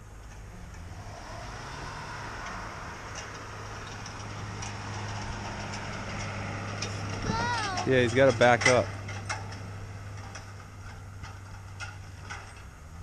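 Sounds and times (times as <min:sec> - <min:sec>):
vehicle engine straining: 0:00.0 - 0:13.0.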